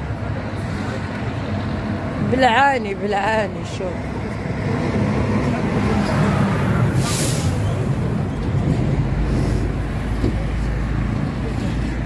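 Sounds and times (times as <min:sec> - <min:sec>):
motor vehicle rumbling: 0:00.0 - 0:12.0
road traffic noise: 0:00.0 - 0:12.0.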